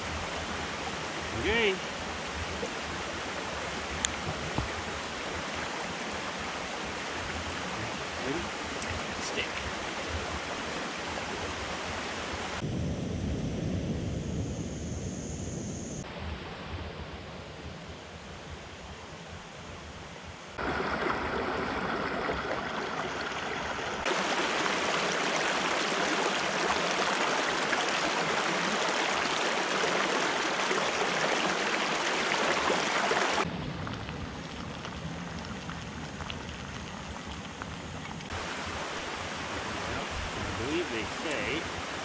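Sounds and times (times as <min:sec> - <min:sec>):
creek running over rocks: 0:00.0 - 0:12.5, 0:20.6 - 0:42.0.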